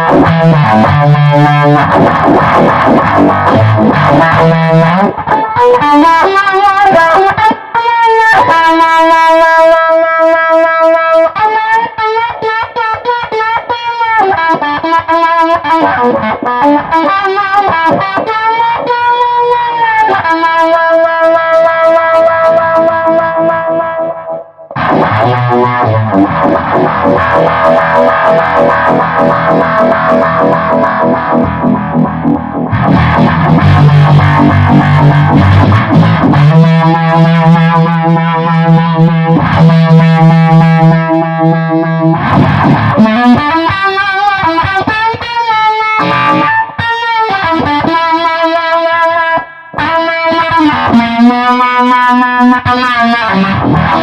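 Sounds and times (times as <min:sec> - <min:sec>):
distorted electric guitar: 0:00.0 - 0:54.0.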